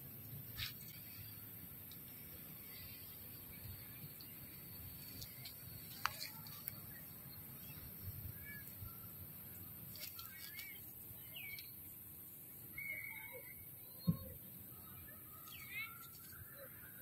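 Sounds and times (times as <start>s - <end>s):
bird chirping calls: 0.2s - 12.0s, 12.6s - 17.0s.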